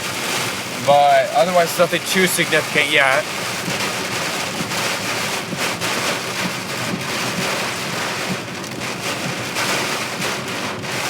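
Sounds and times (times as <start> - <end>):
road noise: 0.0 - 9.4
heavy rain on a car: 0.0 - 11.0.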